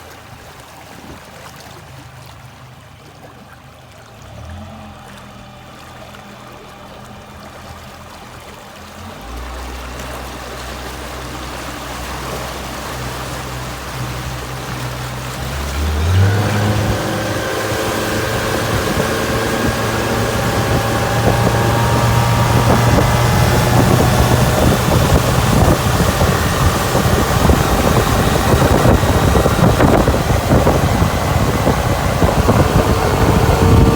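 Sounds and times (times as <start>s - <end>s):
outboard motor running: 0.0s - 33.9s
water rushing: 0.0s - 33.9s
wind: 0.0s - 33.9s.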